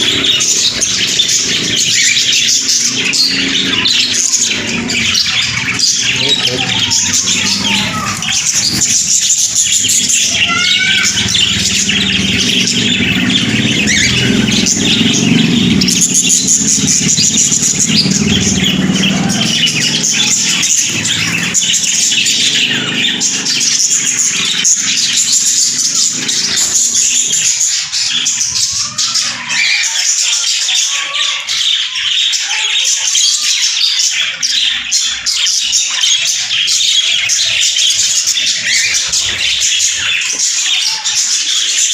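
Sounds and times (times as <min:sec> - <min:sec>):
caged birds chirping: 0:00.0 - 0:41.9.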